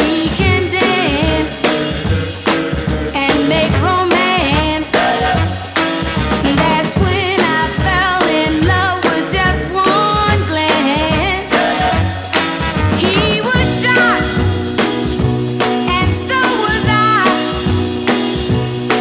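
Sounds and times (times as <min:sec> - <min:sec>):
pop and soul record: 0:00.0 - 0:19.0.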